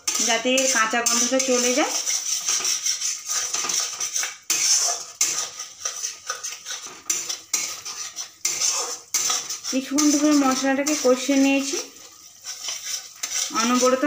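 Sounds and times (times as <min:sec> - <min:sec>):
metal spatula scraping a pan: 0:00.0 - 0:14.0.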